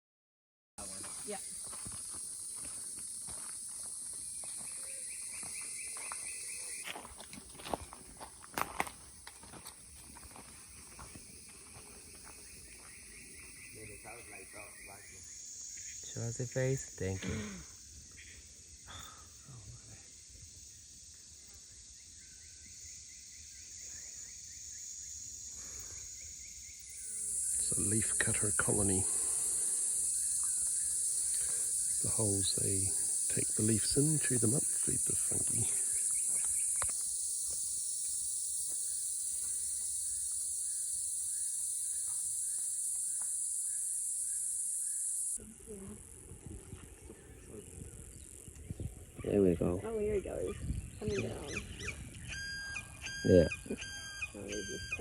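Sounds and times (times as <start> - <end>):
insects droning: 0.8 - 55.0.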